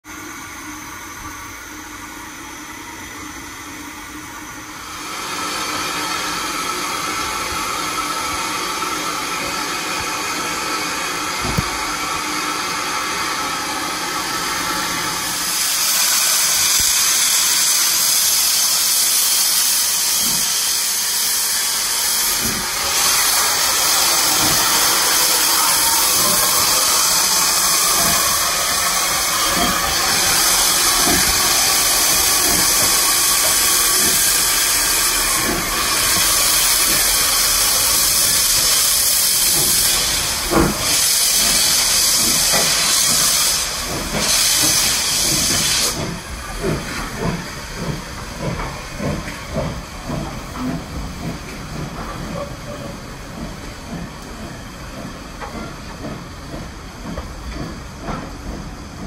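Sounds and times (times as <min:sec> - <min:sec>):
steam locomotive hissing steam: 0:00.1 - 0:59.0.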